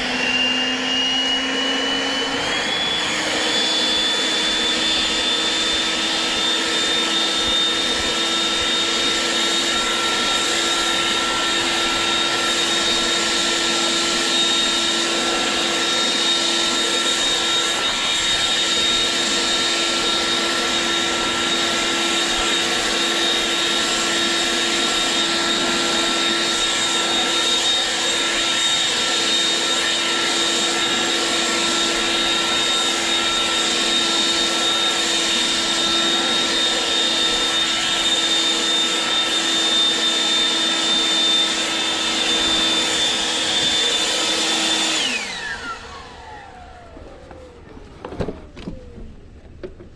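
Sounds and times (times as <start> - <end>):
leaf blower running: 0.0 - 49.9.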